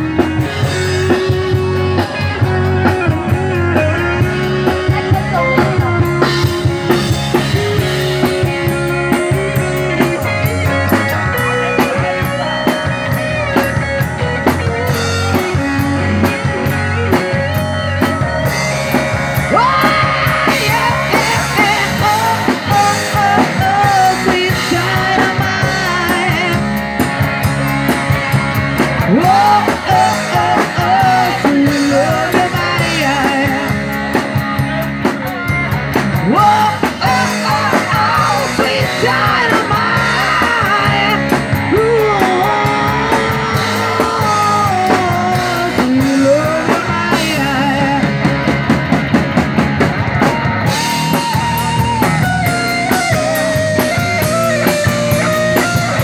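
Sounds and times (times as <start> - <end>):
drum kit: 0.0 - 56.0
electric bass: 0.0 - 56.0
electric guitars: 0.0 - 56.0.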